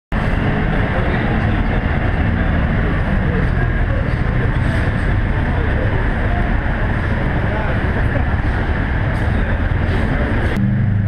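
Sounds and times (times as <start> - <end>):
car engine droning: 0.1 - 11.0
dyno rollers humming: 0.2 - 11.0.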